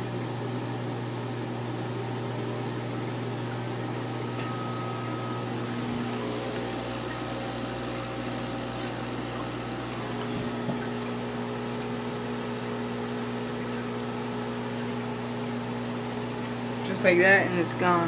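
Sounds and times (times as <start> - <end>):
aquarium pump humming: 0.0 - 18.0
water bubbling: 0.2 - 17.3.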